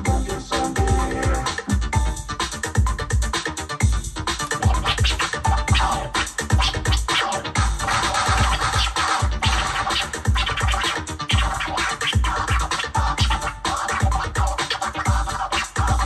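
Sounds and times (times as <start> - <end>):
electro-funk drum beat: 0.0 - 16.0
turntable scratching: 0.0 - 16.0.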